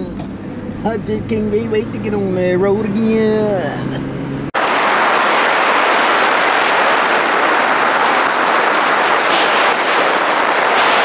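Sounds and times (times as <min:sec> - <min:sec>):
car wind and road noise: 0:00.0 - 0:11.0.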